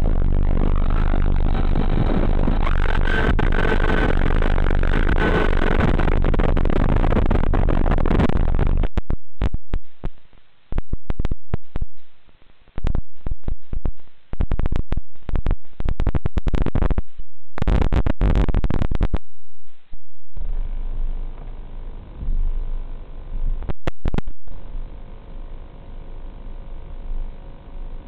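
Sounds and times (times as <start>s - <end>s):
harsh static hiss: 0.0s - 28.0s
rapid static crackles: 0.0s - 28.0s.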